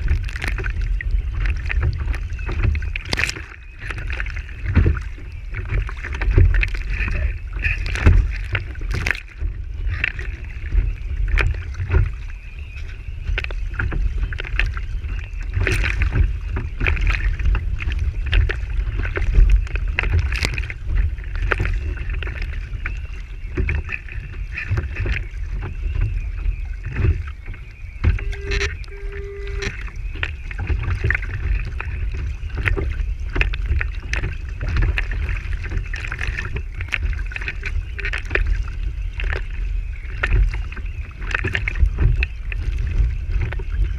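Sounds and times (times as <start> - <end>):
steady low rumble: 0.0 - 43.9
water slapping against hull: 0.0 - 43.9.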